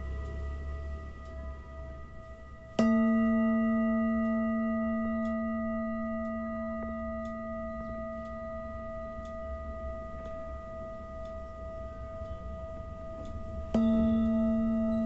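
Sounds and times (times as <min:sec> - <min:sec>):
singing bowl ringing: 0:00.0 - 0:15.0
singing bowl struck with mallet: 0:00.0 - 0:15.0.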